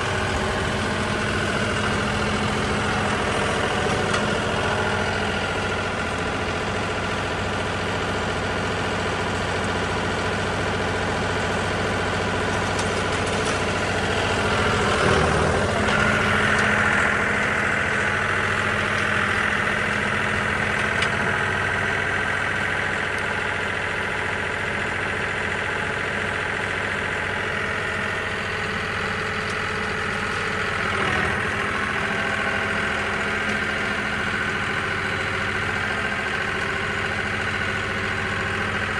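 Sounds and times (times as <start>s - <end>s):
baler machinery working: 0.0s - 38.9s
tractor engine under load: 0.0s - 38.9s.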